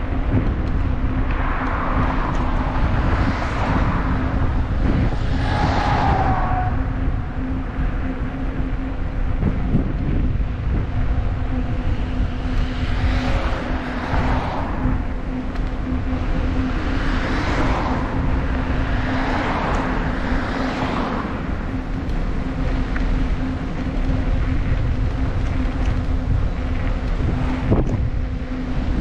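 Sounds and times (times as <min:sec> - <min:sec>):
passing cars tyre noise: 0:00.0 - 0:29.0
steady low hum: 0:00.0 - 0:29.0
wind and road rumble: 0:00.0 - 0:29.0.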